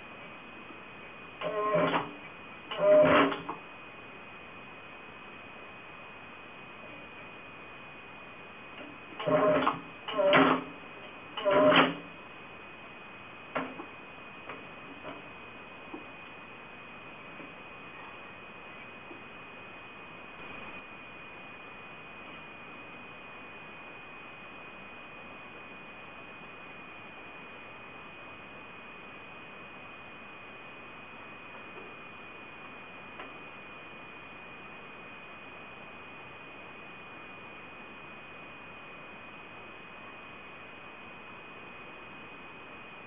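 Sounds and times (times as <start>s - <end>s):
high-pitched whine: 0.0s - 43.0s.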